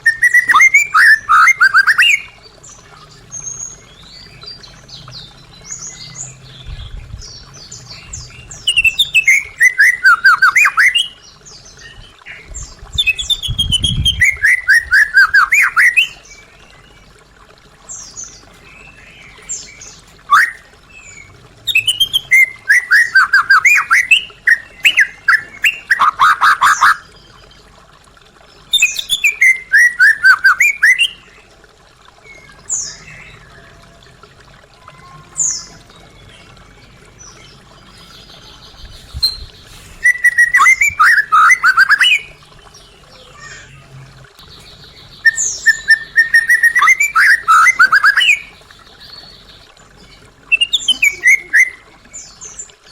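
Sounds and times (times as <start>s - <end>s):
bird singing rapid phrases: 0.0s - 17.2s, 17.8s - 27.7s, 28.6s - 31.5s, 34.8s - 52.9s.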